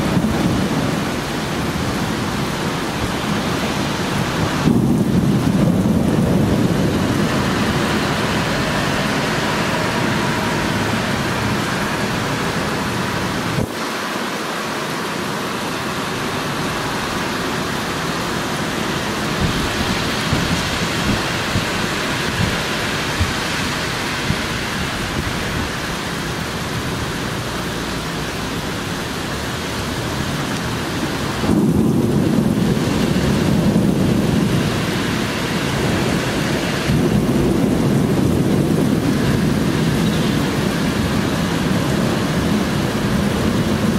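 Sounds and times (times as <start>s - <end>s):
rolling rumble of thunder: 0.0s - 13.7s, 16.5s - 43.9s
heavy rain falling: 0.0s - 43.9s.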